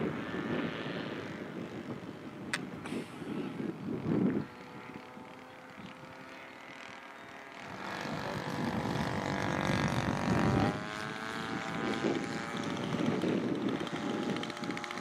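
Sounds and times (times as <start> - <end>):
model plane engine flying past: 0.0 - 15.0.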